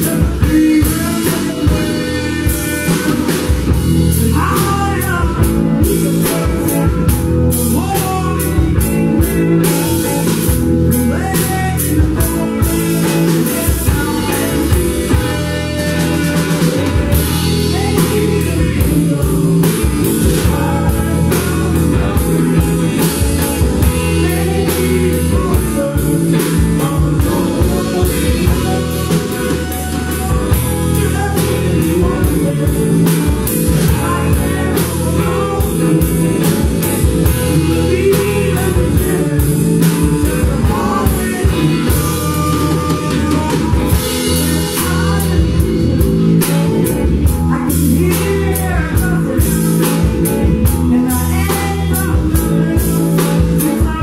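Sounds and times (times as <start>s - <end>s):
drum kit: 0.0s - 54.0s
electric guitars: 0.0s - 54.0s
woman singing: 0.0s - 54.0s.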